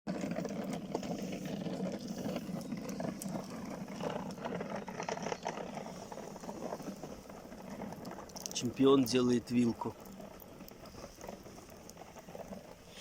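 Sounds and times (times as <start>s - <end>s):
campfire crackling and popping: 0.1s - 13.0s.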